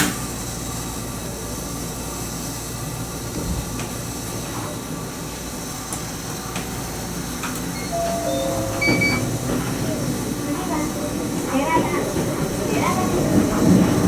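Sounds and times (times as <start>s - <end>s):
train running rumble and hiss: 0.0s - 14.0s.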